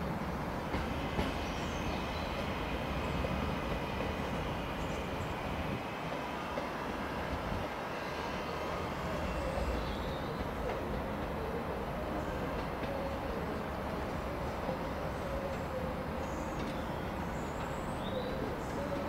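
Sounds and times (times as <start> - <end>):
passenger train running: 0.0 - 19.0.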